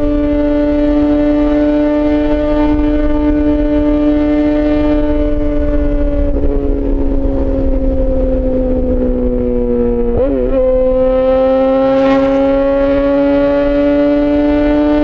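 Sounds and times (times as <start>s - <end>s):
low wind rumble: 0.0s - 15.0s
motorcycle engine at high revs: 0.0s - 15.0s.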